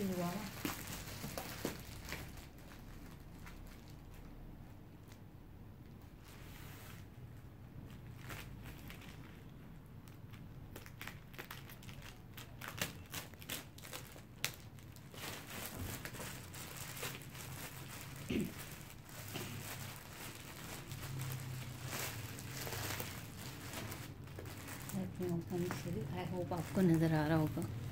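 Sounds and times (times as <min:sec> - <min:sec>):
plastic wrap crinkling: 0:00.0 - 0:04.4, 0:07.8 - 0:27.9.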